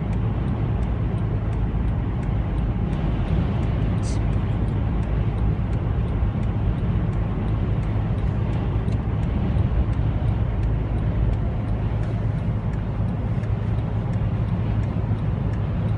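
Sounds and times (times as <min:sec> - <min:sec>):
car engine and tyre rumble: 0:00.0 - 0:15.9
faint light ticks: 0:00.0 - 0:15.9.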